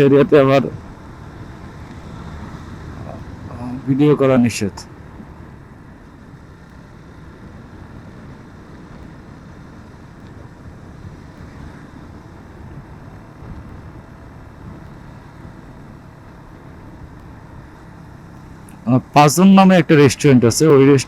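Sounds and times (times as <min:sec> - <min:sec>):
motorcycle road noise: 0:00.0 - 0:21.0.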